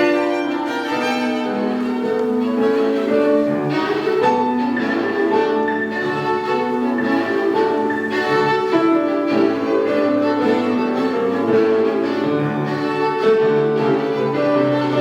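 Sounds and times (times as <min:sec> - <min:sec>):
piano accompaniment: 0:00.0 - 0:15.0
violin melody: 0:00.0 - 0:15.0.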